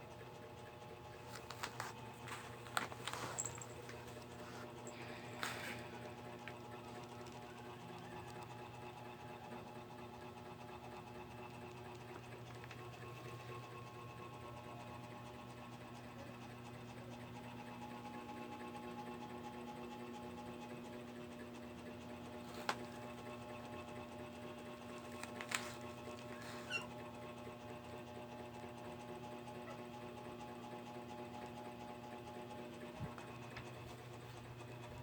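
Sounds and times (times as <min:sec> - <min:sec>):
faint motor hum: 0:00.0 - 0:35.0.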